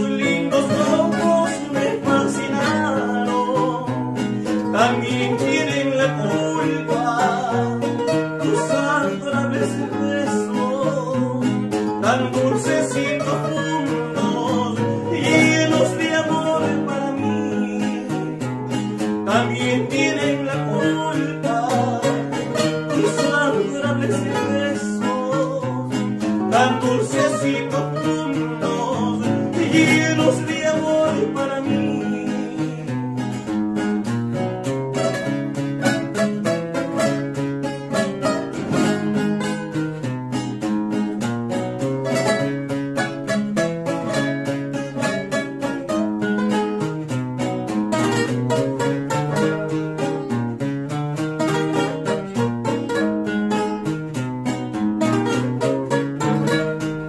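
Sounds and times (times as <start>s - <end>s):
man singing: 0.0s - 40.9s, 41.8s - 46.5s, 47.7s - 57.0s
acoustic guitars playing: 0.0s - 57.0s.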